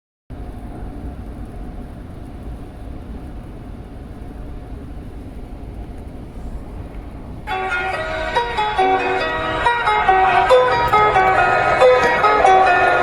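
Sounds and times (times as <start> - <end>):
low rumble of vehicle cabin noise: 0.3 - 13.0.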